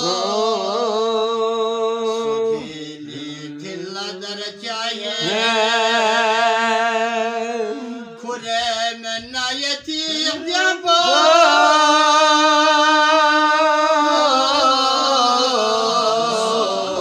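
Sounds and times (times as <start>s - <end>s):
man singing with vibrato: 0.0s - 17.0s.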